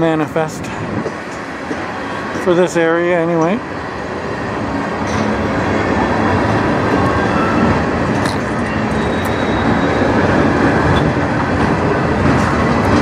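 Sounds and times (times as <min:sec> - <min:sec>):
train wheels running on rail: 0:00.0 - 0:13.0.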